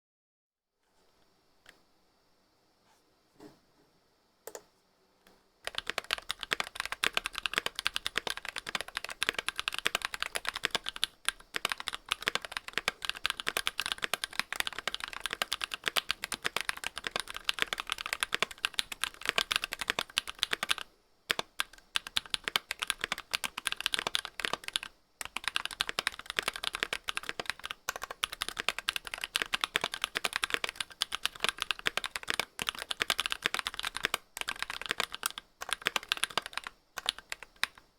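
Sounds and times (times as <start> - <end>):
fast keyboard typing: 5.6 - 37.9.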